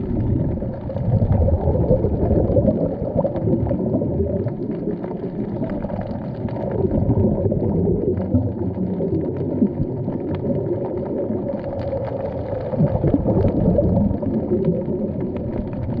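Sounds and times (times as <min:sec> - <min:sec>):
underwater rumble and bubbling: 0:00.0 - 0:16.0.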